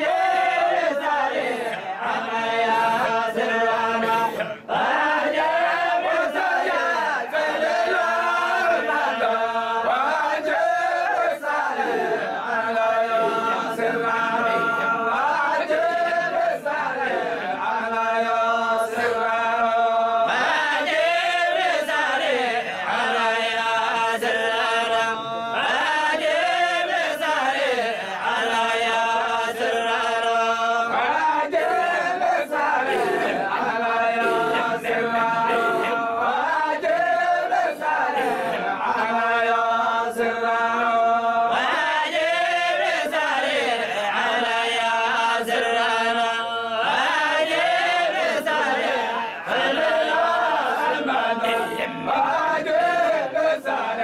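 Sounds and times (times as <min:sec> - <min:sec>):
men chanting together: 0:00.0 - 0:54.0.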